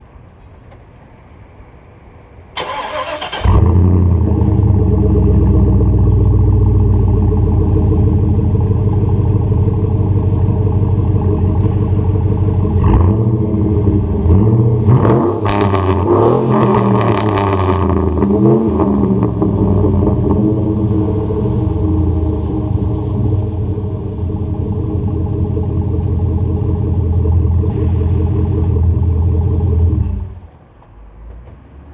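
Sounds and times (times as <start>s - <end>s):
truck engine idling: 2.7s - 17.0s, 17.9s - 30.6s.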